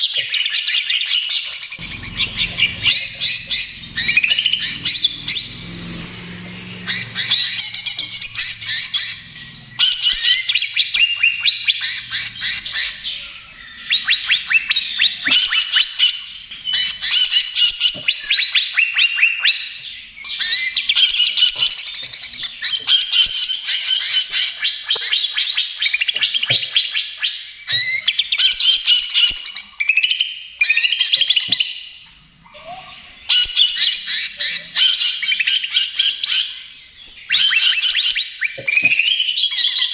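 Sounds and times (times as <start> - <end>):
bird singing chirps and trills: 0.4 - 39.9.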